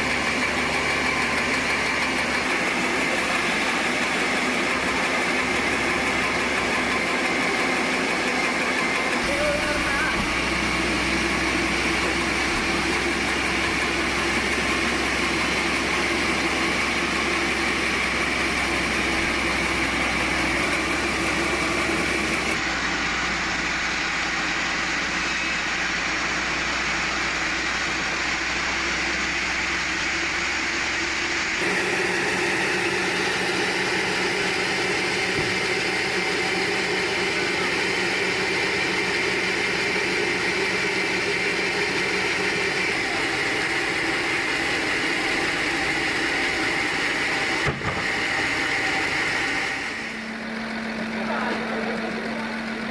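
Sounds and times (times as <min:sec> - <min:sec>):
sawmill machinery drone with hiss: 0:00.0 - 0:52.9.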